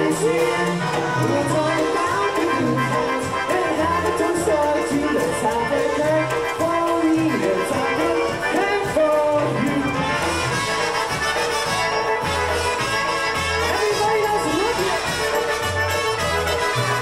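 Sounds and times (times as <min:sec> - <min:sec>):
polka band playing: 0:00.0 - 0:17.0.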